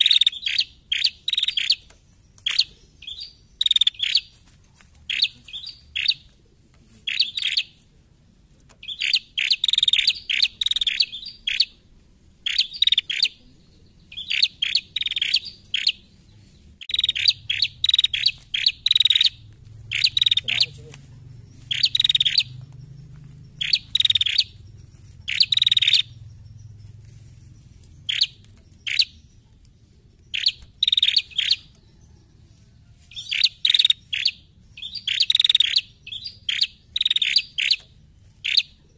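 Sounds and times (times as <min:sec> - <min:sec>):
bird chipping calls: 0:00.0 - 0:04.4, 0:05.0 - 0:06.3, 0:07.0 - 0:07.8, 0:08.6 - 0:32.2, 0:33.1 - 0:38.9.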